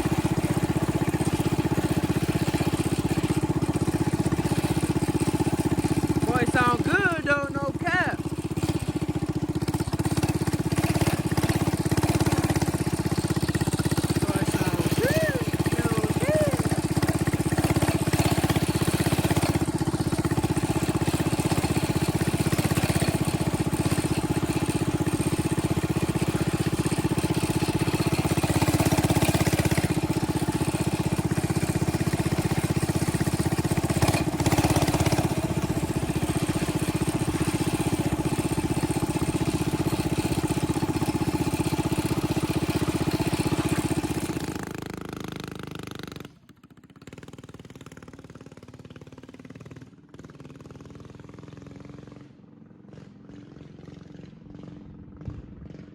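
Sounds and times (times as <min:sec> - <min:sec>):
motorbike engine idling: 0:00.0 - 0:55.9.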